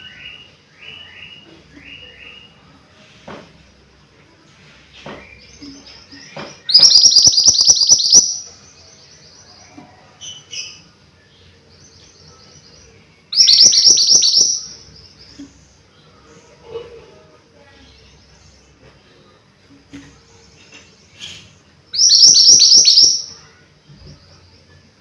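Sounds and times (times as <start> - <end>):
songbird singing: 0.0 - 3.4, 4.2 - 25.0.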